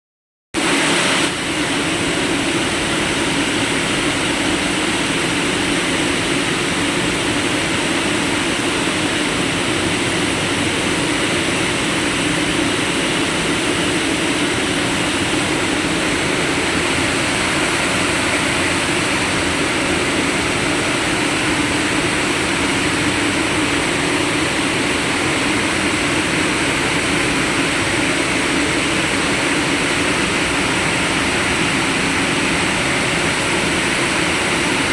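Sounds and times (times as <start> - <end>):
industrial machinery running: 0.6 - 34.9.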